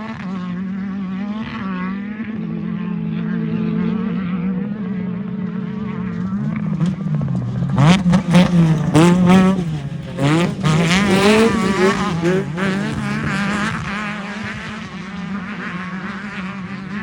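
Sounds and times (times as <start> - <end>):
engine drone: 0.0 - 17.0
race engines revving: 0.0 - 17.0.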